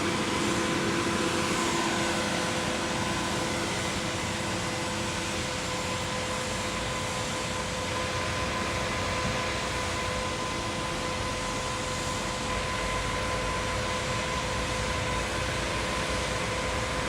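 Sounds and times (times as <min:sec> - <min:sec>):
concrete pump drone: 0:00.0 - 0:17.0
steady mechanical whine: 0:00.0 - 0:17.0.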